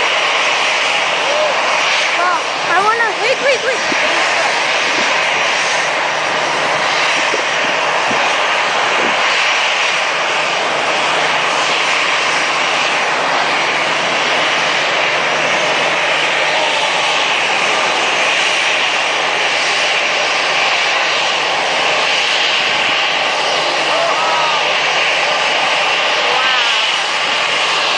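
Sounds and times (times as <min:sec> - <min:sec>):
jet engines roaring overhead: 0:00.0 - 0:27.9.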